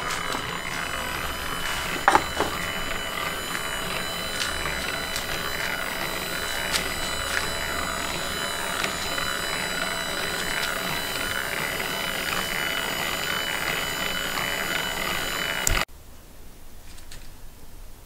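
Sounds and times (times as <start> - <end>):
motor driving lathe whining: 0.0 - 15.9.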